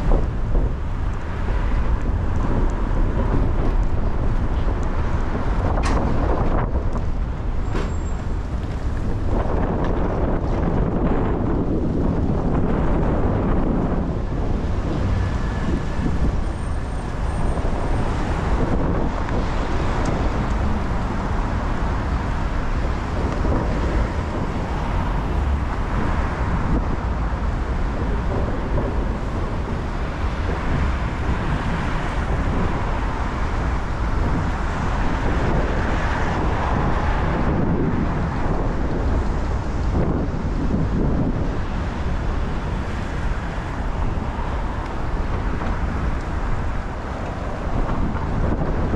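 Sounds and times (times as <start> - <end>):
city street traffic: 0.0 - 48.9
wind buffeting microphone: 0.0 - 48.9.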